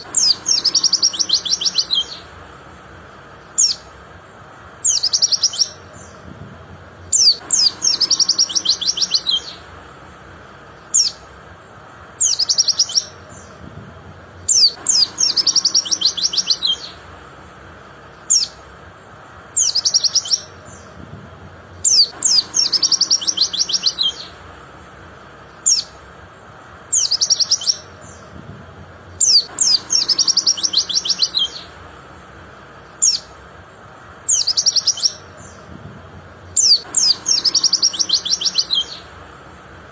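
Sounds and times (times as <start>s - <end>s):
white-eye chattering song: 0.0s - 39.9s.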